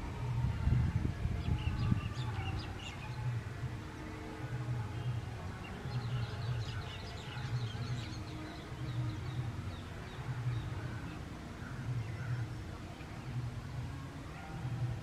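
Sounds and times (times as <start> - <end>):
birds twittering: 1.4 - 13.7.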